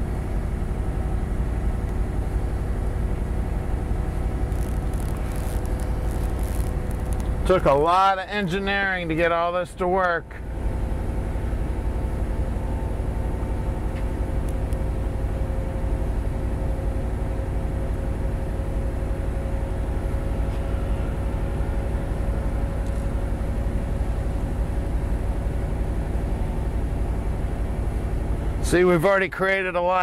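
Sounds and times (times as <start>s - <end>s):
car engine idling: 0.0s - 30.0s
convertible top motor hum: 0.0s - 30.0s.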